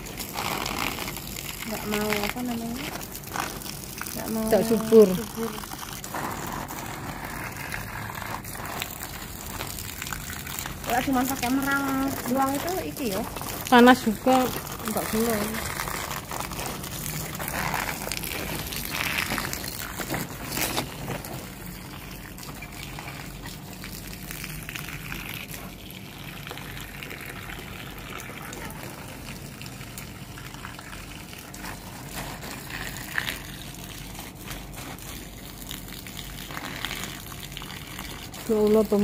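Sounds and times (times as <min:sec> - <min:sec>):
hose water spraying on plants: 0:00.0 - 0:39.0.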